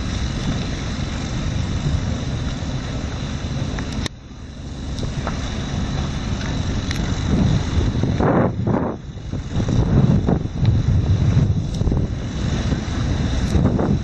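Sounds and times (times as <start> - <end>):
harbour noise: 0.0 - 14.0
wind rumbling on microphone: 0.0 - 14.0.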